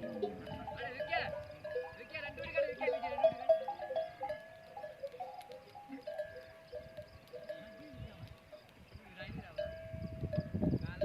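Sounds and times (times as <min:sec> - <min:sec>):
camel bells clanking: 0:00.0 - 0:11.0.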